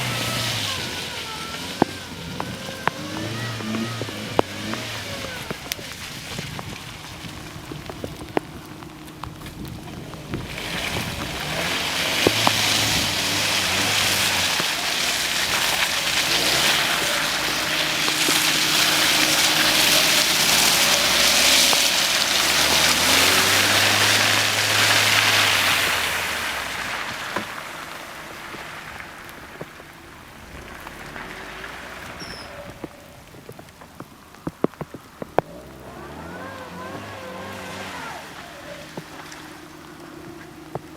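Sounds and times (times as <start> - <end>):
car engine under load: 0.0 - 40.9
tyres splashing through mud: 0.0 - 40.9.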